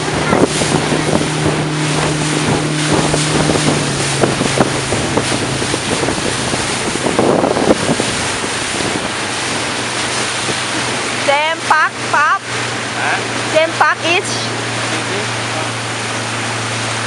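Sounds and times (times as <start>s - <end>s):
wind buffeting microphone: 0.0s - 15.0s
motorboat engine hum: 0.0s - 17.0s
rushing water: 0.0s - 17.0s.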